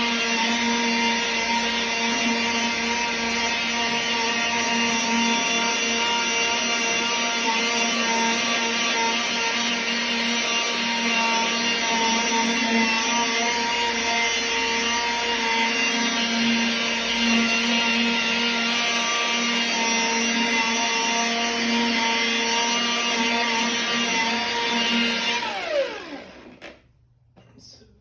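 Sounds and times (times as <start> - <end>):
cordless polisher running: 0.0 - 26.8
polisher spinning down: 0.0 - 26.9.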